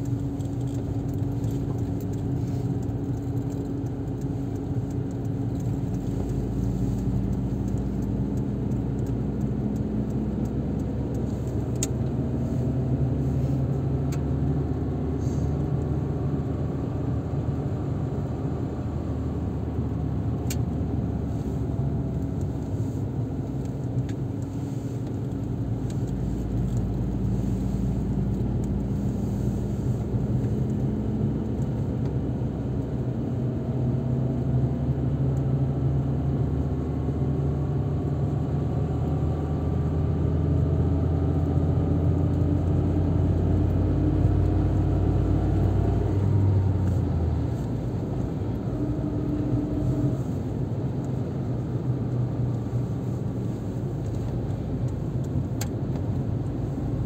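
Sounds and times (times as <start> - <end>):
car engine hum: 0.0 - 57.0
tyre noise on road: 0.0 - 57.0.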